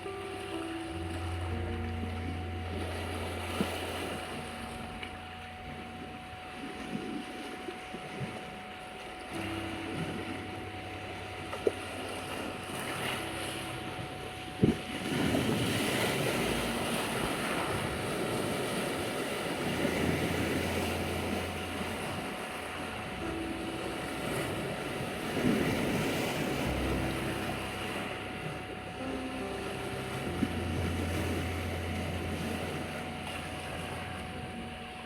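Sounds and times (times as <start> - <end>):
low steady hum: 0.0 - 35.0
steady meditation tone: 0.0 - 35.0
waves washing onto beach: 0.0 - 35.0.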